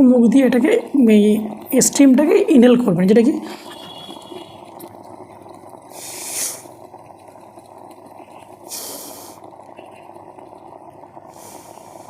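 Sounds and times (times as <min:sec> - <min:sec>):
steamer water hissing: 0:00.2 - 0:12.0.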